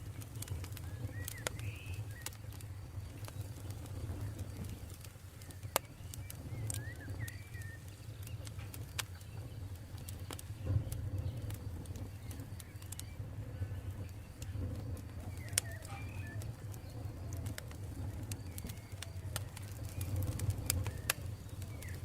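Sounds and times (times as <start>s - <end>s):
campfire crackling and popping: 0.0s - 22.0s
low rumble of fire: 0.0s - 22.0s
bird chirps: 0.7s - 22.0s.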